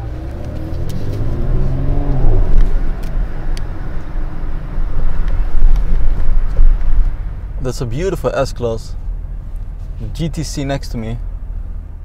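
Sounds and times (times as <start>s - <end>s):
car engine accelerating: 0.0s - 10.1s
exhaust cracks: 0.0s - 10.2s.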